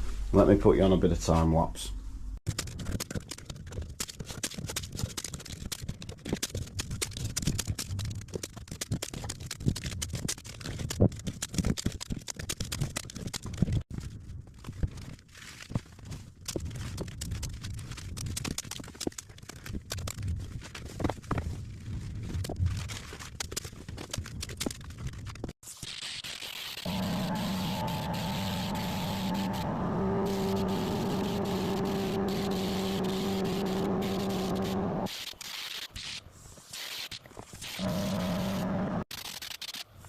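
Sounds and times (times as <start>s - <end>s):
sped-up tape and sheeting clatter: 2.5s - 13.8s, 14.7s - 40.0s.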